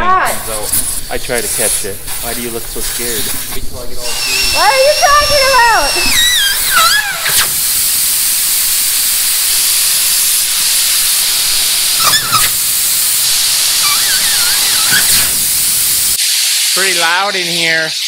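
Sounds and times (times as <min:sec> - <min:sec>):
air hissing out of tire: 0:00.1 - 0:18.0.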